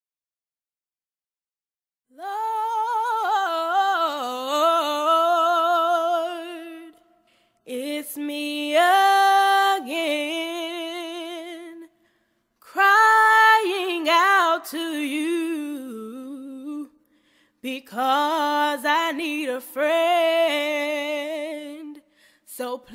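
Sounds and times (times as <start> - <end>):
woman singing unaccompanied: 2.1 - 7.1, 7.7 - 11.9, 12.6 - 17.0, 17.6 - 22.9.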